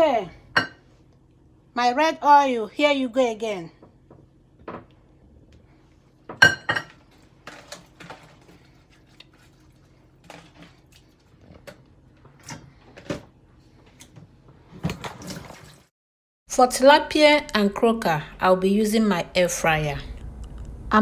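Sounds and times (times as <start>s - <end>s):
faint hum: 0.0s - 14.6s, 16.5s - 21.0s.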